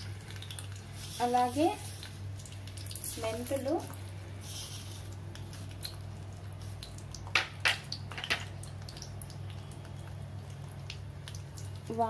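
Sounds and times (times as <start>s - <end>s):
oil crackling and popping in pan: 0.0s - 12.0s.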